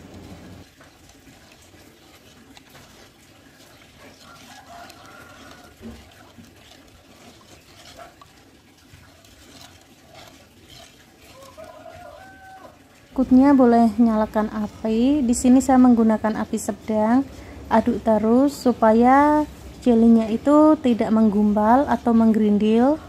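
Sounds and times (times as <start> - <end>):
liquid sloshing: 0.0 - 23.0
spatula stirring in a wok: 0.0 - 23.0.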